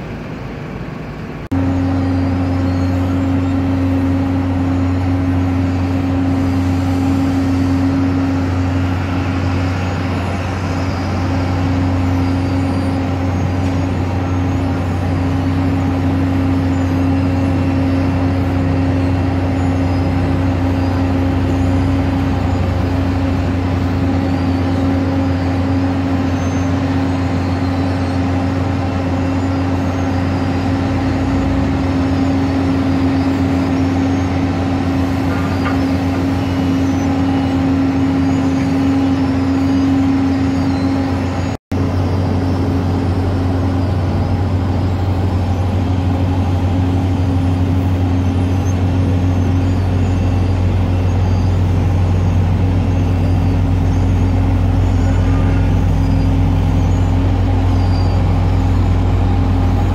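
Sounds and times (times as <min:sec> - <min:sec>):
heavy diesel machinery humming: 0:00.0 - 0:59.9.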